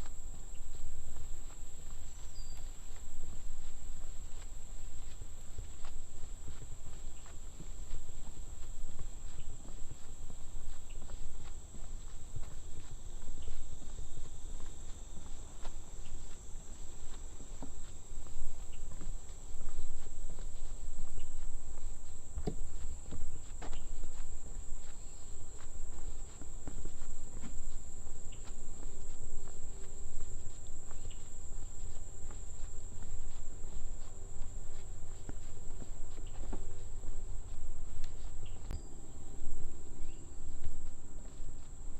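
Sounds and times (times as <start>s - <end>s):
footsteps on a trail: 0.0s - 41.9s
high-pitched insect chorus: 0.0s - 41.9s.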